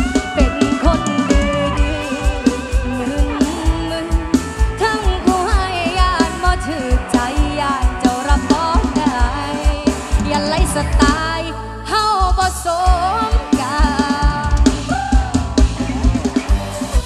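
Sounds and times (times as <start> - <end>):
fast drum beat: 0.0 - 11.4, 12.2 - 17.0
person singing: 0.0 - 16.2.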